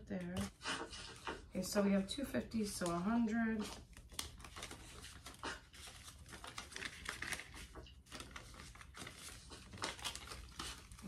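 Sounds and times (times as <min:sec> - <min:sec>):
banknotes being counted by hand: 0:00.3 - 0:11.0.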